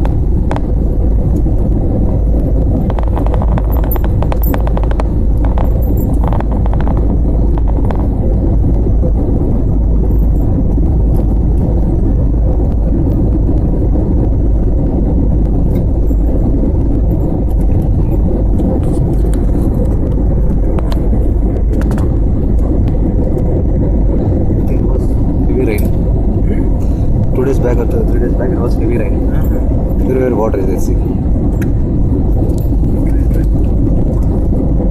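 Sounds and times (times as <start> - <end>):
airplane engines rumbling: 0.0 - 34.9.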